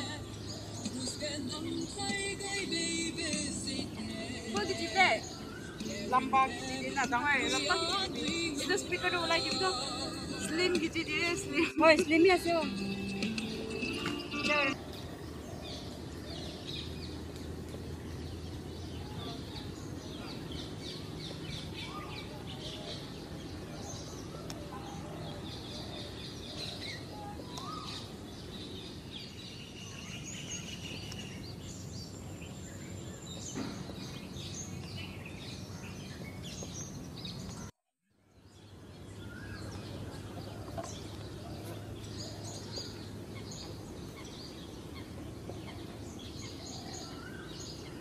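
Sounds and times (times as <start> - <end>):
birds chirping and calling: 0.0 - 37.7, 38.4 - 48.0
steady background noise: 0.0 - 37.7, 38.4 - 48.0.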